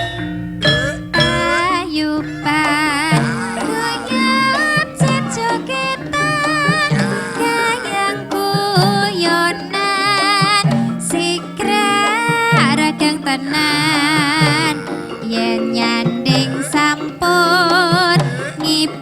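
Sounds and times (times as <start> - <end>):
high wavering melody: 0.0 - 19.0
metallophone and gong notes: 0.0 - 19.0.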